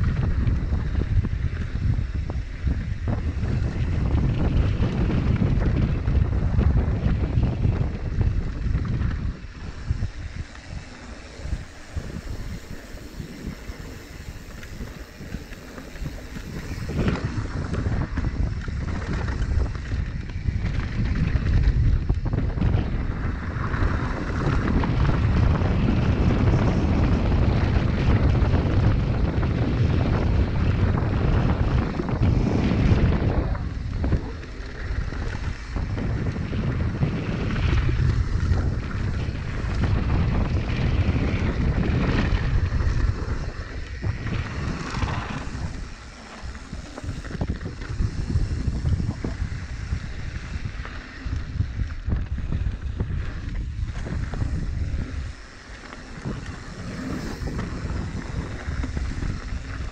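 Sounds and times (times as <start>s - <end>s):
bike tyres rumbling on dirt: 0.0s - 59.9s
wind rushing over microphone: 0.0s - 59.9s.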